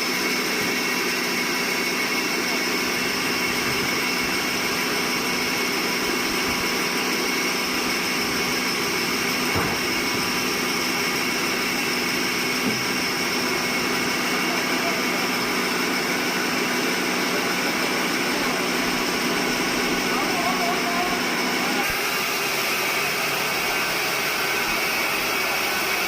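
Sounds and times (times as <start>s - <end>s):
sawmill machinery drone: 0.0s - 26.0s.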